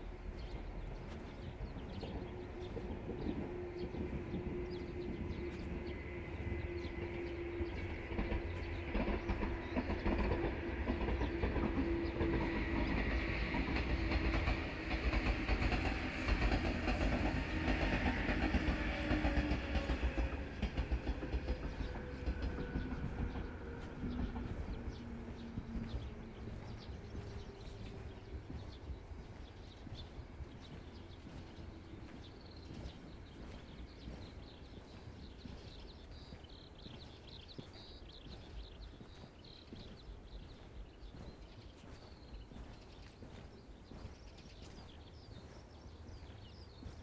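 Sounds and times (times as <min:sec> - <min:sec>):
train hum dropping in pitch: 0:00.0 - 0:41.3
train wheels clattering over rails: 0:00.0 - 0:47.0.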